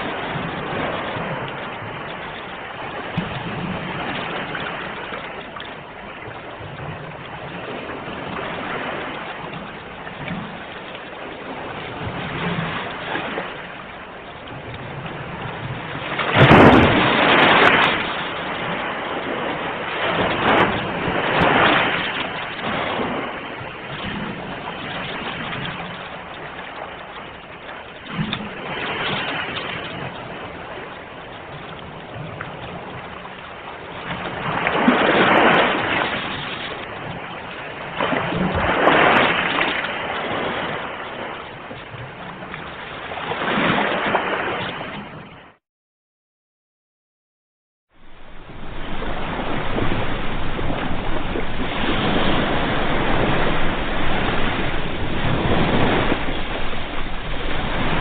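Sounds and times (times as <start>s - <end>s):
sea waves washing: 0.0s - 45.6s, 47.9s - 58.0s.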